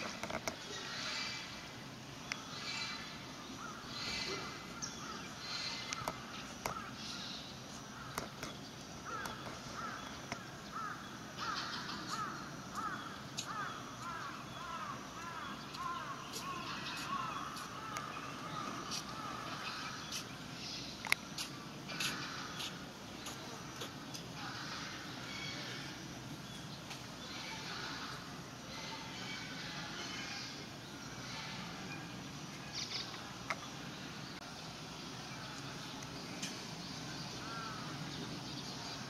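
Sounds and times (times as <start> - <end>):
birds calling: 0.0 - 39.0.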